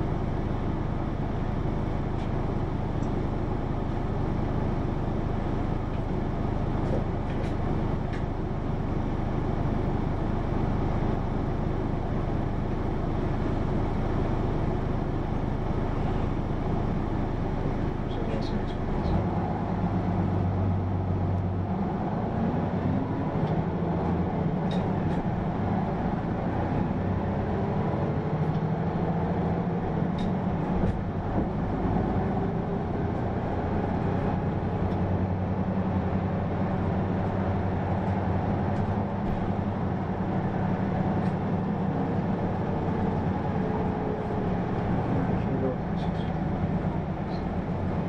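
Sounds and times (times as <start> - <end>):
bus diesel engine drone: 0.0 - 48.0
road noise: 0.0 - 48.0.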